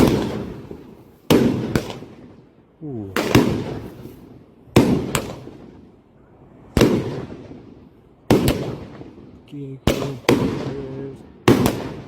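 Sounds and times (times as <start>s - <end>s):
fireworks bangs with echo: 0.0s - 6.0s, 6.7s - 12.0s.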